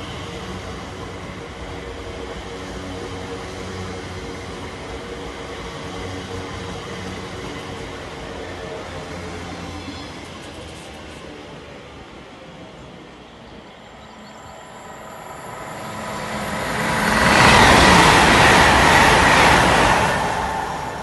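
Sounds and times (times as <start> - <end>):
train wheels rushing on rails: 0.0 - 21.0.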